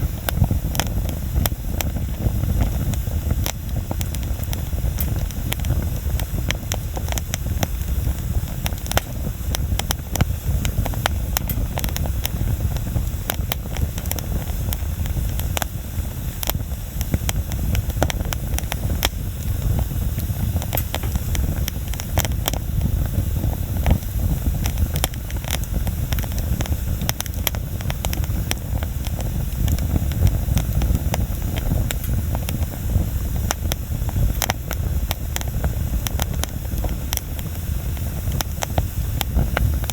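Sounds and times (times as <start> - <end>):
bonfire crackling and popping: 0.0 - 39.9
low steady rumble: 0.0 - 39.9.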